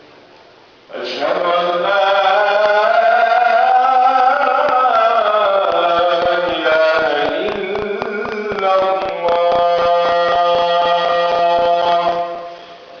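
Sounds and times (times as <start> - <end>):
man chanting call to prayer: 0.9 - 12.8.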